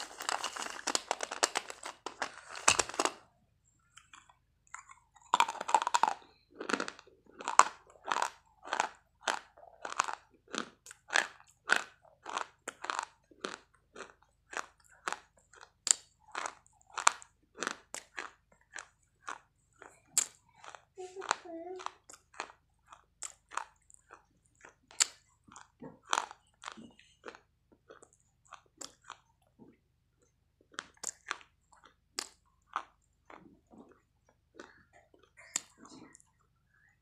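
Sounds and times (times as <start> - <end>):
crunching chewing: 0.0 - 3.2, 3.8 - 36.5.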